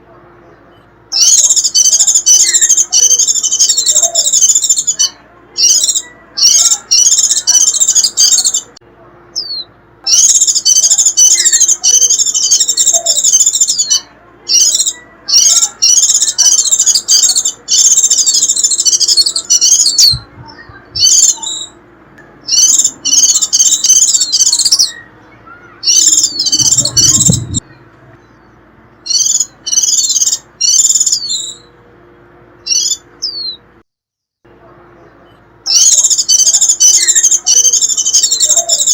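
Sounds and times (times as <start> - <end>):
bird twittering chatter: 0.8 - 8.8, 9.4 - 21.8, 22.4 - 31.8, 32.6 - 33.6, 35.2 - 38.9.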